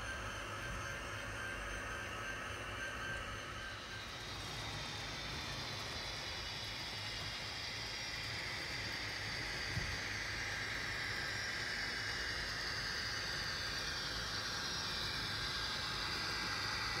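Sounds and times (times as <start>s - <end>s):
model train rolling hiss: 1.6s - 17.0s.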